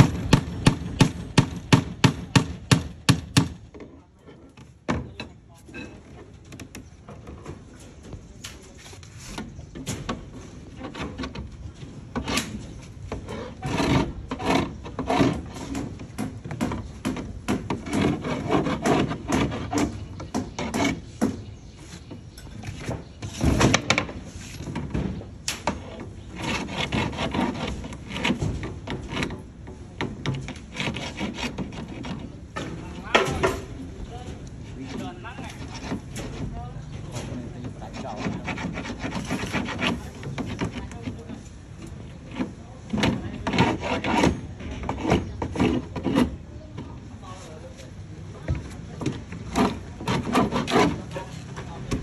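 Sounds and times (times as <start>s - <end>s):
wood scraping on wood: 3.7s - 52.0s.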